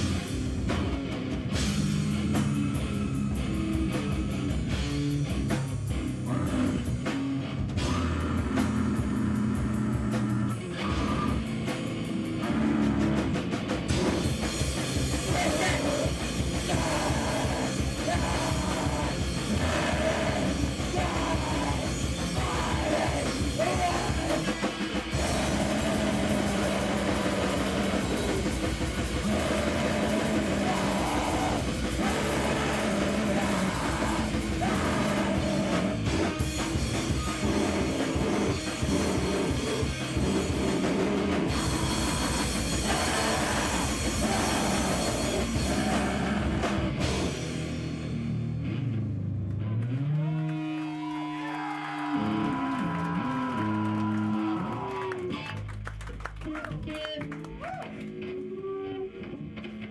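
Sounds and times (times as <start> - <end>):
noise rock band playing live: 0.0 - 49.2, 56.8 - 59.9
drums: 0.0 - 59.9.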